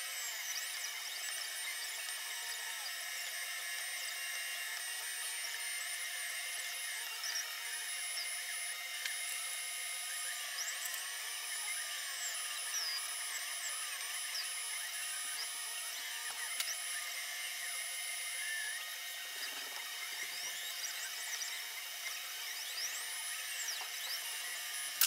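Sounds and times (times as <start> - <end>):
stepper motors whining: 0.0 - 25.0.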